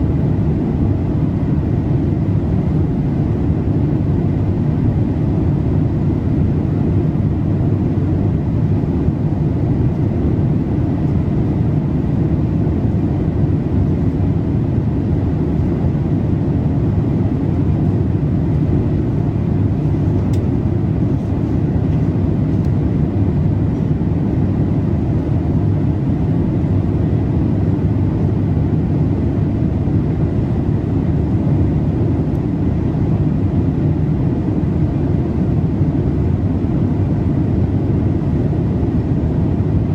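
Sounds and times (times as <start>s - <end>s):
airflow and engine rumble: 0.0s - 39.9s
faint high hum: 0.0s - 39.9s.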